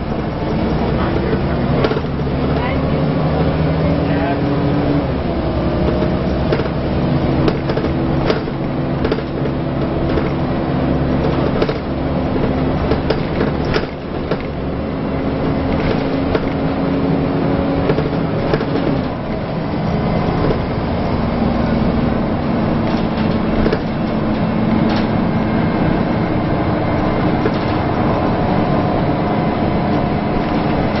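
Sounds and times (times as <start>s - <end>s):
bus body rattling and knocking: 0.0s - 31.0s
bus diesel engine drone: 0.0s - 31.0s.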